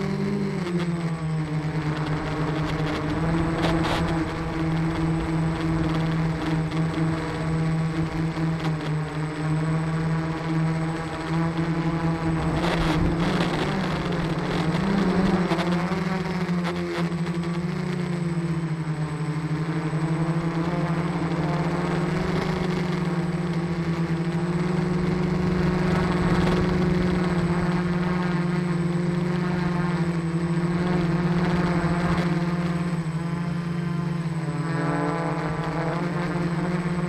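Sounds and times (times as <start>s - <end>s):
drone motors buzzing hum: 0.0s - 37.0s.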